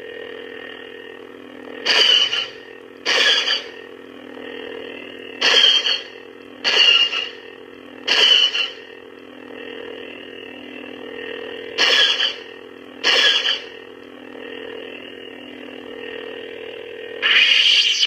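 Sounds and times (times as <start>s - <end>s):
electronic hum: 0.0s - 18.0s.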